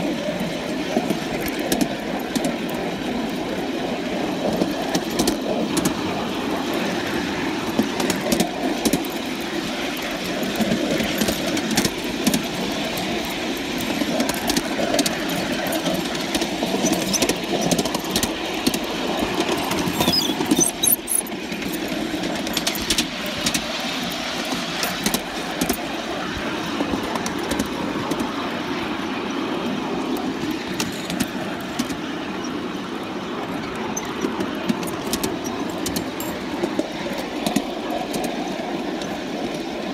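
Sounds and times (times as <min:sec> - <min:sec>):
model steam locomotive running: 0:00.0 - 0:39.9.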